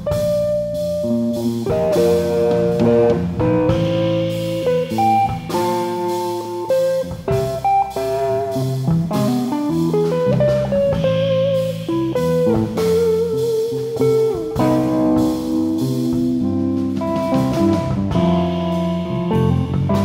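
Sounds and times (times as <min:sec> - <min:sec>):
drum kit with cymbals: 0:00.0 - 0:20.0
electric bass: 0:00.0 - 0:20.0
electric guitar melody: 0:00.0 - 0:20.0.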